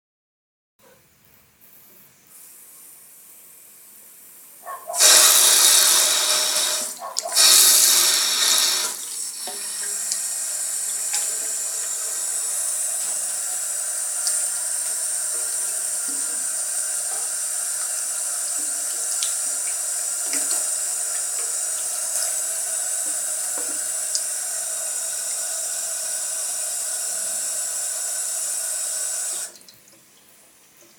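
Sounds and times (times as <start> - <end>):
tap water running into sink: 4.8 - 30.1.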